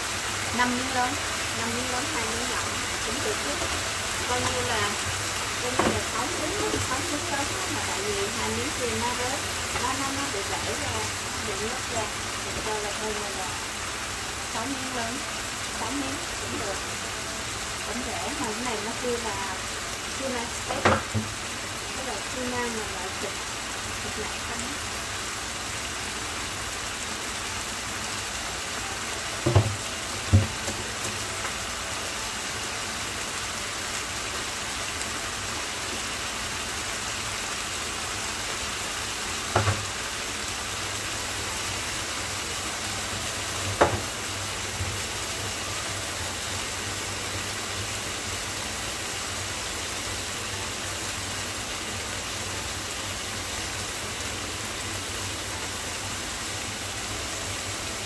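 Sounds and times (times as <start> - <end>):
fish sizzling in a frying pan: 0.0 - 58.0.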